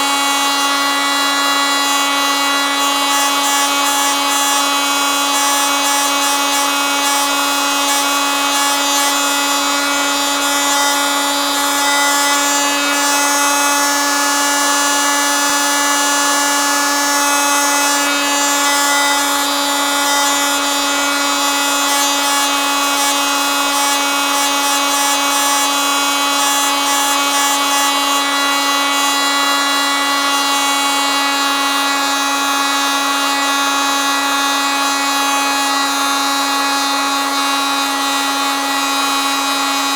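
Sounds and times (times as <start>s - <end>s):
oscillating multi-tool buzzing: 0.0s - 39.9s.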